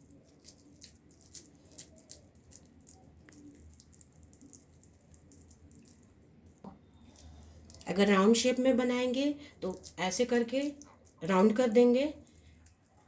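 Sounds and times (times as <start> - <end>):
hands squishing raw mince: 0.0 - 7.9, 9.6 - 13.0.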